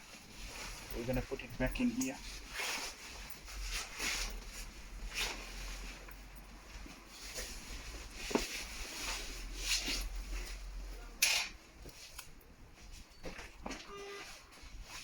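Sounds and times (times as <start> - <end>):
rustling handling noises: 0.0 - 15.0.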